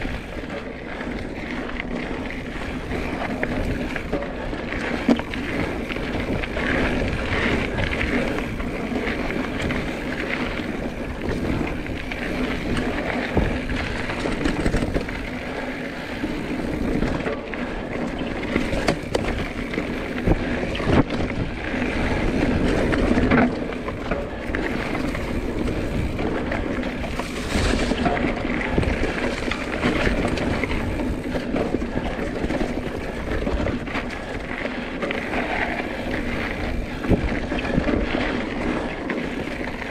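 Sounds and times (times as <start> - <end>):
bike tyre and chassis rattle: 0.0 - 39.9
wind on microphone: 0.0 - 39.9.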